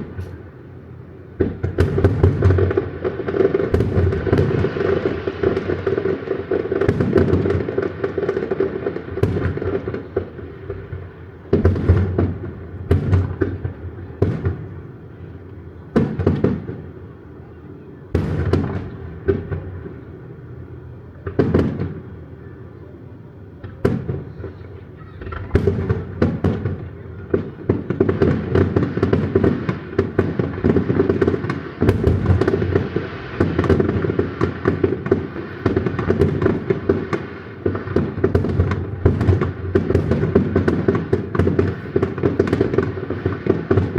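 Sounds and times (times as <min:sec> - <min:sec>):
fireworks booming and crackling: 0:00.0 - 0:43.9.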